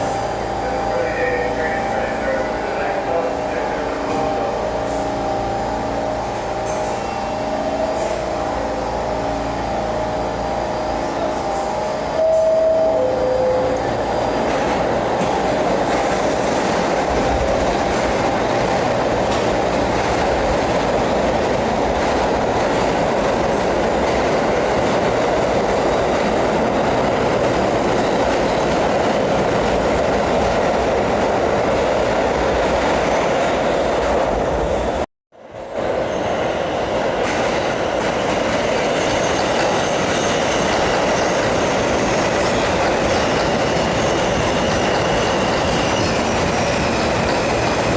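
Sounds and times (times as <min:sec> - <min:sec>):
subway train rumble and clatter: 0:00.0 - 0:47.9.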